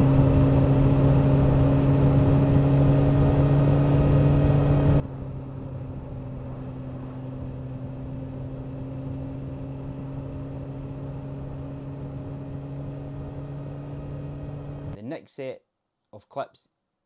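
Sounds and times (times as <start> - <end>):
motorcycle engine cruising: 0.0 - 15.0
road and wind noise: 0.0 - 15.0.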